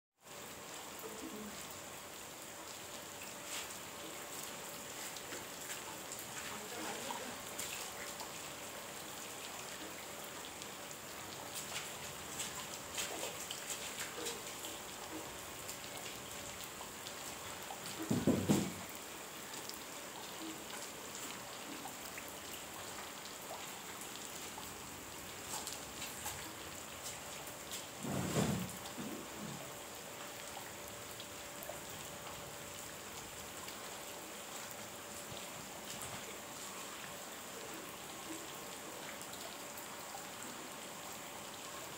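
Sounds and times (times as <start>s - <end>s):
rain falling on plants: 0.2s - 41.9s.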